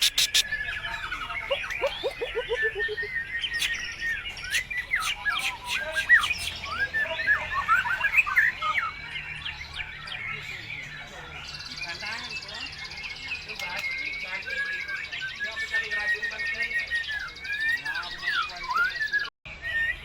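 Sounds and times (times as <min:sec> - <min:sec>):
songbird singing varied song: 0:00.0 - 0:20.0.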